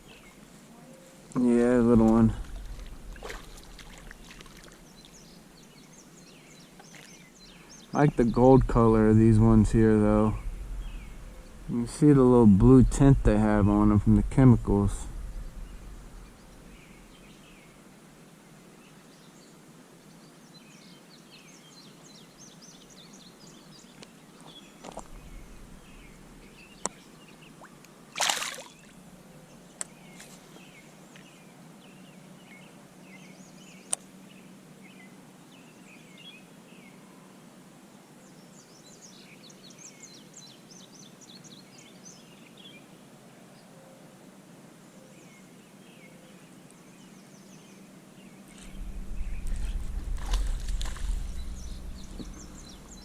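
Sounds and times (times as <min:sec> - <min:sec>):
small birds chirping: 0:00.0 - 0:17.8, 0:18.4 - 0:37.0, 0:38.2 - 0:43.0, 0:45.1 - 0:53.0.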